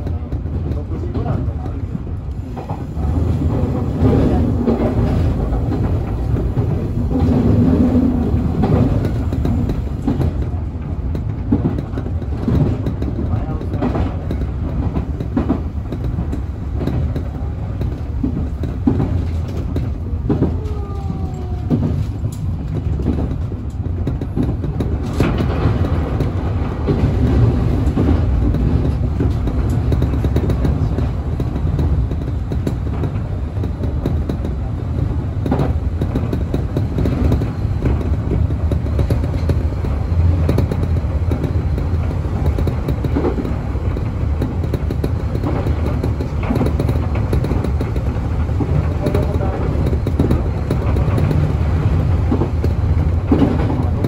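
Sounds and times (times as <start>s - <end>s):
passing train rush: 0.0s - 54.0s
train running rumble: 0.0s - 54.0s
wheels clicking over rail joints: 0.0s - 54.0s.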